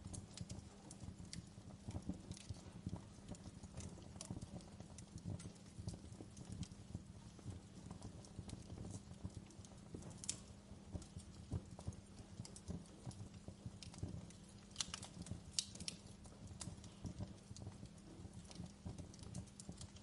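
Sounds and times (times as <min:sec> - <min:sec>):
fire pops and crackles: 0:00.0 - 0:20.0
low fire rumble: 0:00.0 - 0:20.0.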